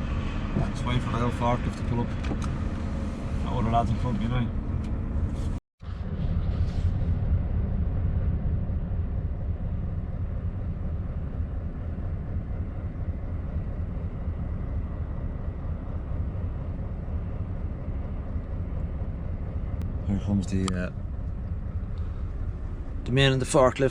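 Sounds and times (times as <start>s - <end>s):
truck engine idling: 0.0s - 23.9s.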